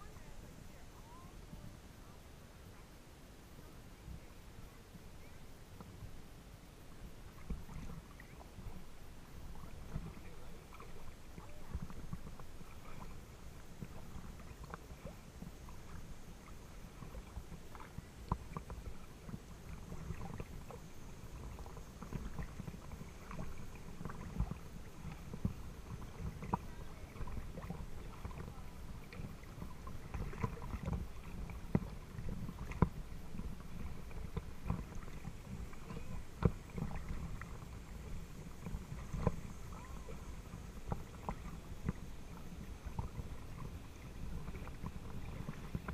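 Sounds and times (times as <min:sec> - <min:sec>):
steady low rumble: 0:00.0 - 0:45.9
water lapping against boat hull: 0:00.0 - 0:45.9
small splashes and ticks: 0:07.2 - 0:45.9.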